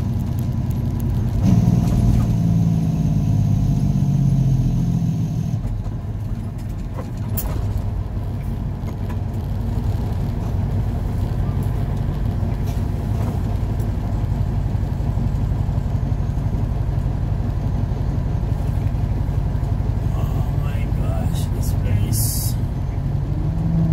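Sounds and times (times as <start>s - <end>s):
truck engine idling: 2.0s - 23.6s.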